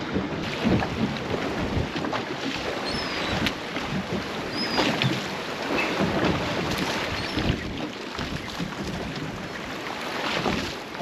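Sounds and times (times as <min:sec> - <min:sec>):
water washing along boat hull: 0:00.0 - 0:11.0
wind buffeting microphone: 0:00.0 - 0:11.0.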